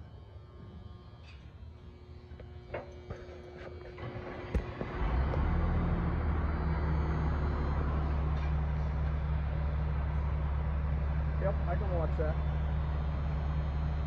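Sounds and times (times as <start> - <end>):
vehicle engine droning: 2.4 - 14.0.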